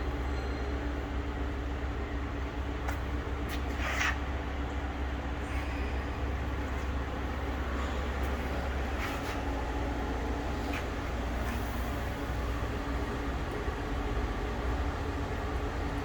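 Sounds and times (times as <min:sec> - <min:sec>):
electric machinery hum: 0:00.0 - 0:16.0.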